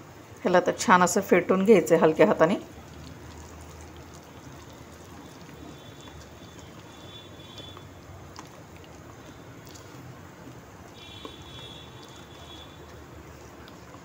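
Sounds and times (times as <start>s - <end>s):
wet squelching of batter: 2.1s - 14.0s.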